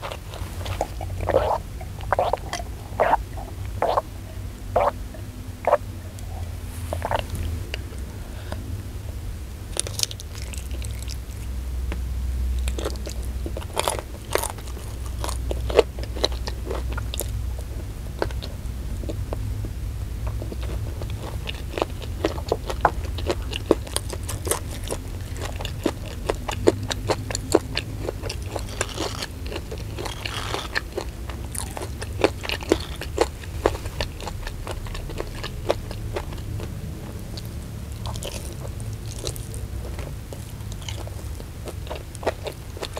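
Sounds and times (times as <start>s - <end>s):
crunchy biting and chewing: 0.0s - 8.7s, 9.7s - 11.6s, 12.5s - 42.9s
low steady hum: 0.0s - 42.9s.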